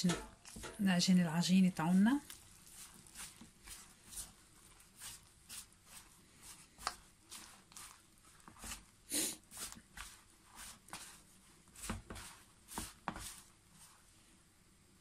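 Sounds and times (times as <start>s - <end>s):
hands squishing dough: 0.3s - 14.1s.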